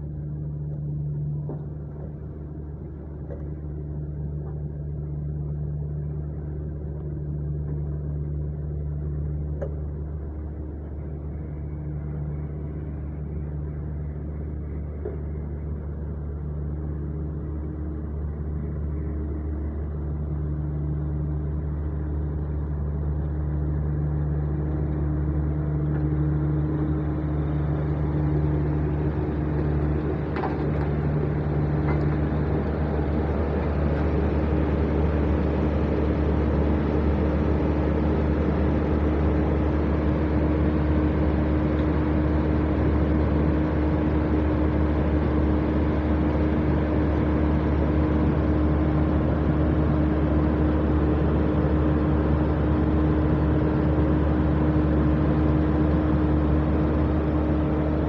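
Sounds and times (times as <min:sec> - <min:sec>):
heavy diesel engine drone: 0:00.0 - 0:58.0.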